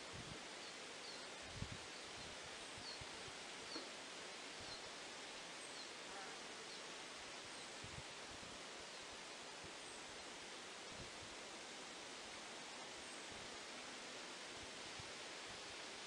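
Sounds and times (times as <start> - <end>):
steady soft hiss: 0.0 - 16.0.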